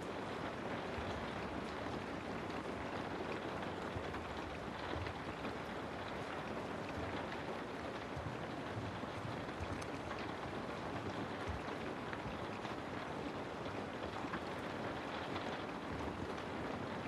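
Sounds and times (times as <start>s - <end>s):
rain falling on a house: 0.0s - 17.0s.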